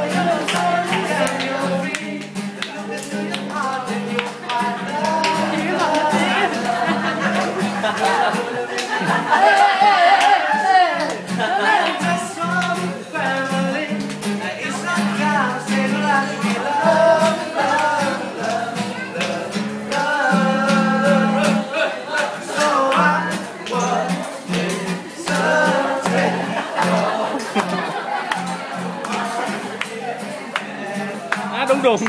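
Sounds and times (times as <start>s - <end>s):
acoustic guitar: 0.0s - 32.0s
person singing: 0.0s - 32.0s.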